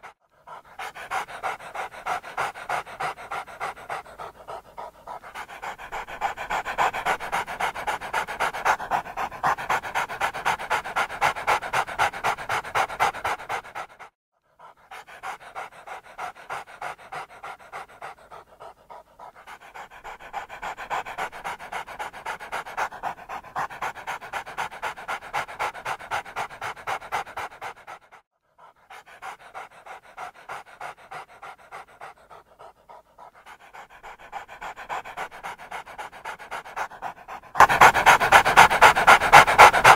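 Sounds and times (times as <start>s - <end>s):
heavy rapid panting: 0.0s - 39.9s.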